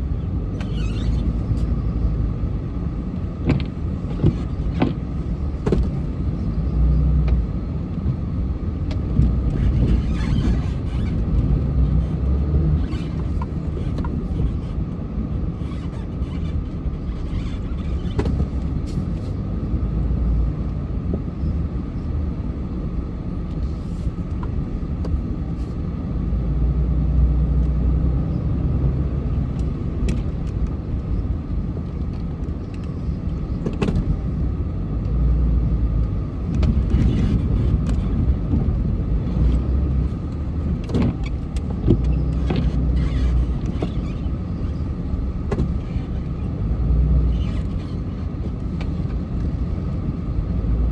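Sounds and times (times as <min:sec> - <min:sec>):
vehicle engine rumbling: 0:00.0 - 0:50.9.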